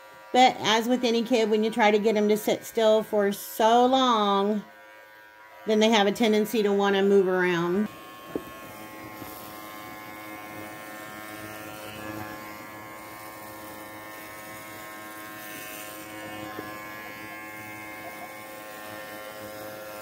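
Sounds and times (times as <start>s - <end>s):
electric dog clippers humming: 0.0s - 20.0s.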